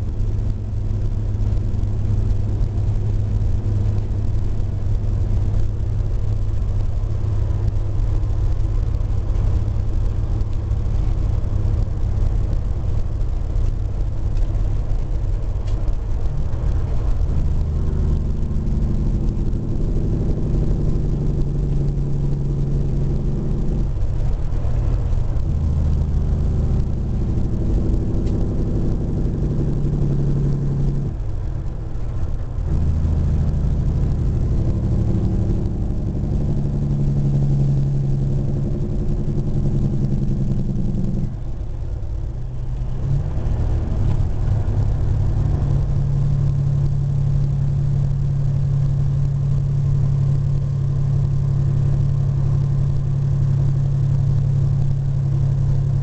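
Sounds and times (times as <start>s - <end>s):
truck engine drone from cab: 0.0s - 56.0s.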